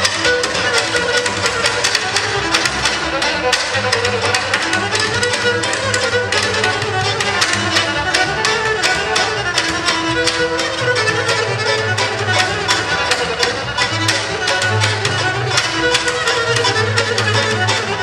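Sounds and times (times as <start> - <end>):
bowed fiddle melody: 0.0 - 18.0
plucked double bass: 0.0 - 18.0
strummed lute: 0.0 - 18.0.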